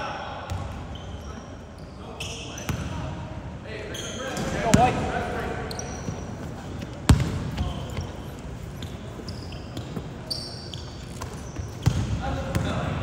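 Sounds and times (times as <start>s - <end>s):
low crowd hum: 0.0s - 13.0s
sneakers squeaking on court: 0.5s - 3.1s, 3.9s - 13.0s.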